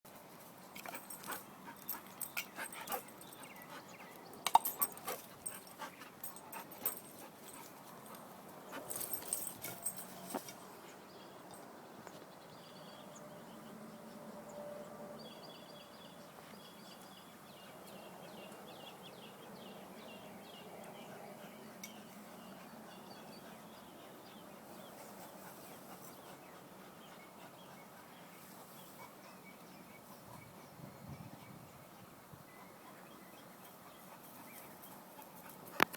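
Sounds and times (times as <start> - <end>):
outdoor background hiss: 0.1 - 35.9
faint birds chirping: 0.2 - 35.9.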